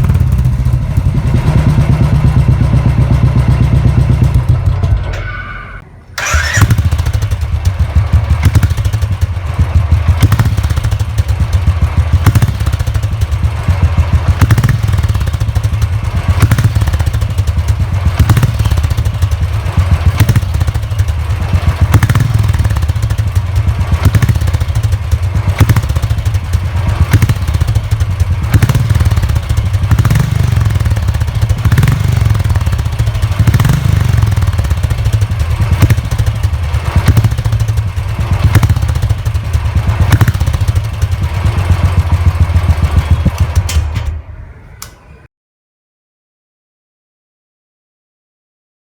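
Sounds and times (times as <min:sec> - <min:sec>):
motorcycle engine idling: 0:00.0 - 0:44.8.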